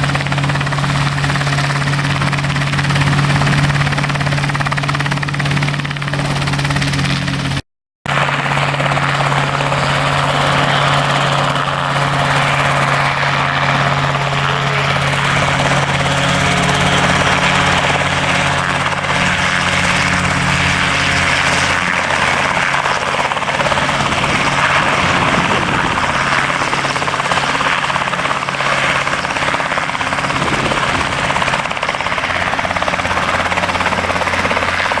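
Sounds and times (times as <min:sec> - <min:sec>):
helicopter running: 0:00.0 - 0:35.0.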